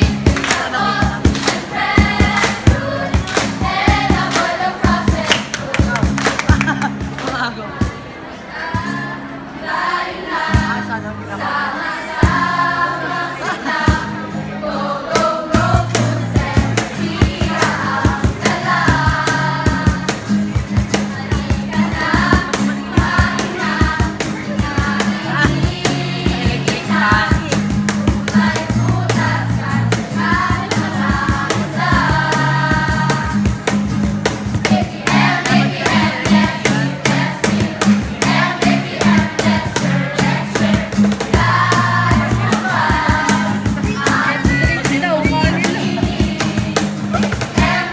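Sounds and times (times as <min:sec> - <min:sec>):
group singing a jingle: 0:00.0 - 0:05.6, 0:08.0 - 0:47.9
backing track with bass and beat: 0:00.0 - 0:08.1, 0:15.2 - 0:47.9.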